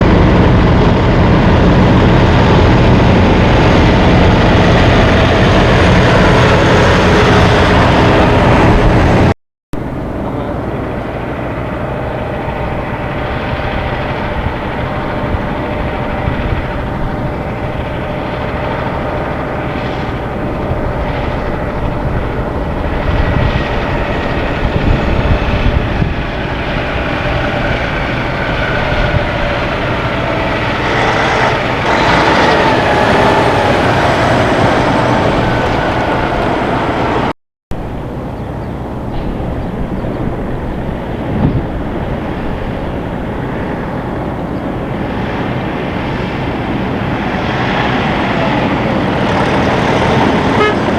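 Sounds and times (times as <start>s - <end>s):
road traffic noise: 0.0s - 50.9s
truck engine: 0.0s - 50.9s.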